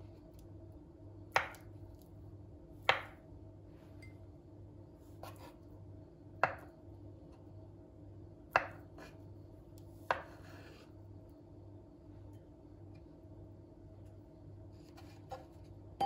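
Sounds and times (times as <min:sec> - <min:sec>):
low appliance hum: 0:00.0 - 0:16.0.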